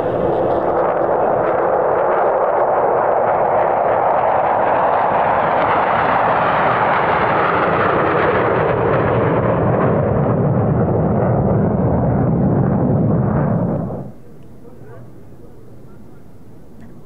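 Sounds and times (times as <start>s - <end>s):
fighter jet flying past: 0.0s - 15.9s.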